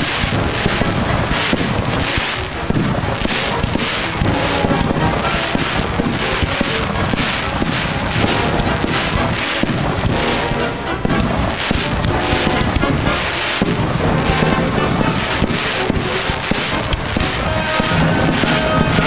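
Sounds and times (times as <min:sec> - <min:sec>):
fireworks firing: 0:00.0 - 0:19.0
music playing: 0:00.0 - 0:19.0.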